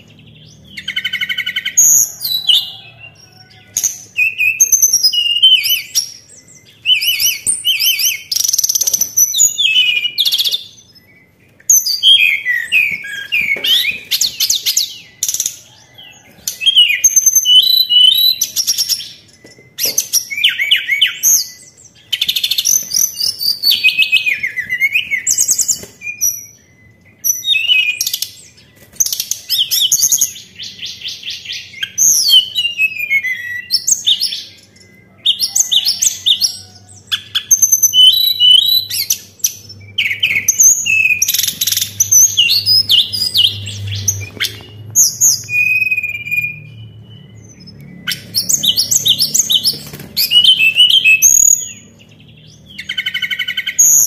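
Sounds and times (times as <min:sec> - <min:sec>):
songbird trills and whistles: 0:00.0 - 0:54.0.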